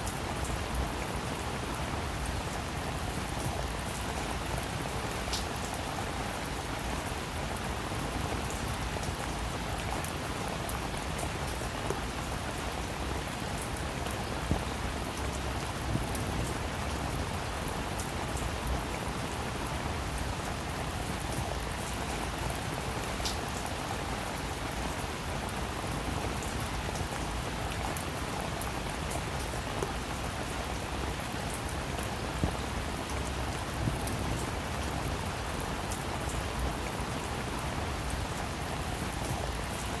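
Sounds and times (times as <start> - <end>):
raindrops pattering: 0.0 - 40.0
steady rain: 0.0 - 40.0.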